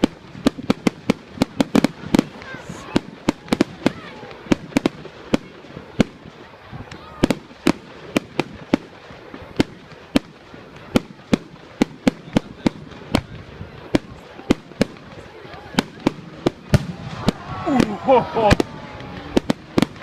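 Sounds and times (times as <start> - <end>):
fireworks banging: 0.0 - 20.0.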